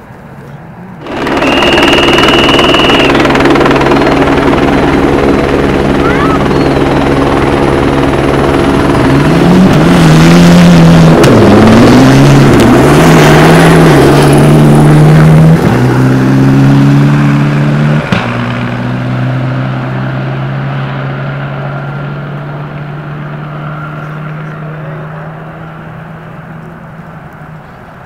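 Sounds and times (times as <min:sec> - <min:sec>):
helicopter rotor drone: 0:01.0 - 0:28.0
rally car engine revving: 0:01.0 - 0:28.0.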